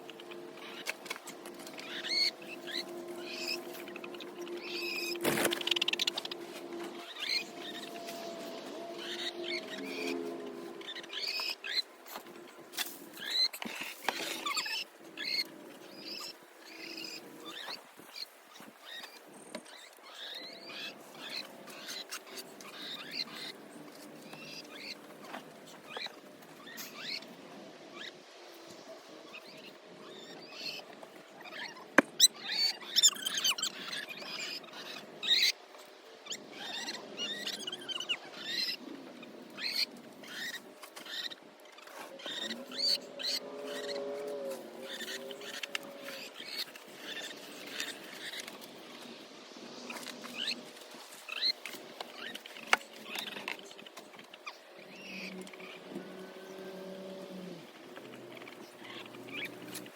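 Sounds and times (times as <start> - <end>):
rustling and scratching: 0.0 - 20.2, 30.9 - 59.9
chickens chirping and peeping: 0.0 - 59.9.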